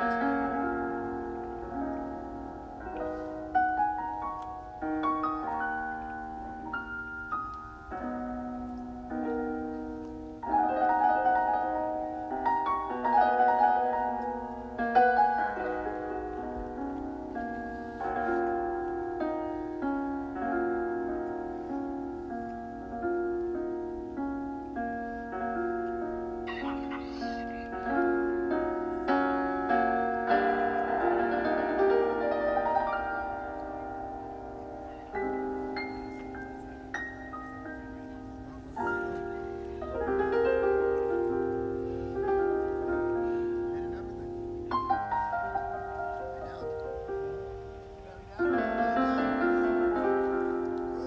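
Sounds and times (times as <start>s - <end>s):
gentle slow piano music: 0.0s - 51.0s.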